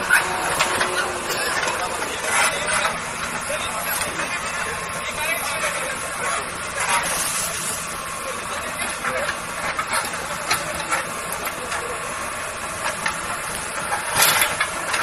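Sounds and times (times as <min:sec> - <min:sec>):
people talking indistinctly: 0:00.0 - 0:14.9
engine humming: 0:00.0 - 0:15.0.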